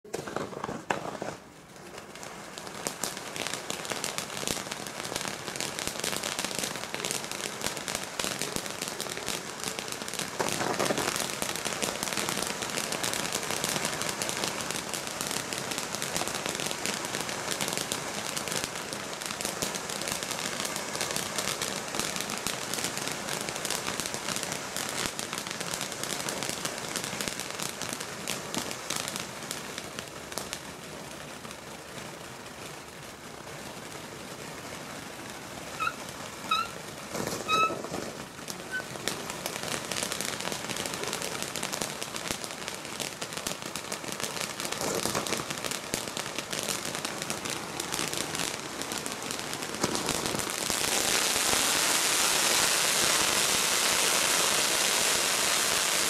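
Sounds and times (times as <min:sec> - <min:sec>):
firework fountain hissing and crackling: 0:00.0 - 0:56.0.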